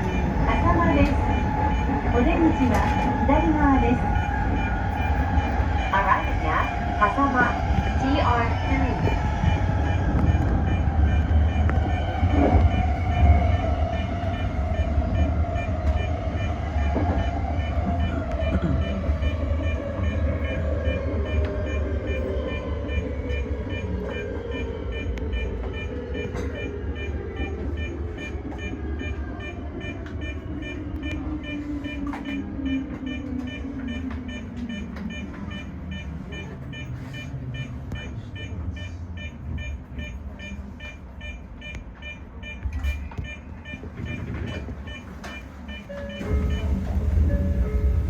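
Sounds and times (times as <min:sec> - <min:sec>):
train traction motors whining: 0:00.0 - 0:48.0
train wheels rumbling on track: 0:00.0 - 0:48.0.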